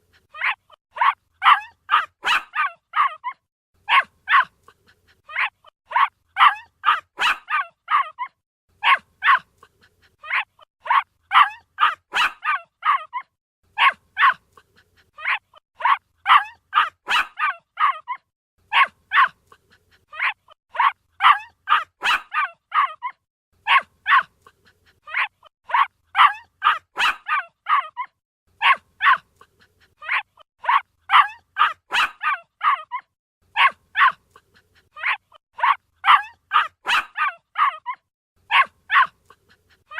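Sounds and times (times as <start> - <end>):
puppy barking in high-pitched yaps: 0.2 - 39.9.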